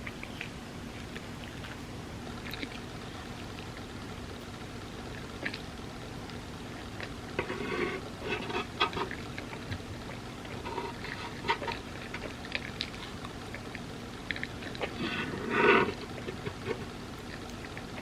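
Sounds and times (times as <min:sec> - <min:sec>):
wet chewing and smacking: 0:00.0 - 0:18.0.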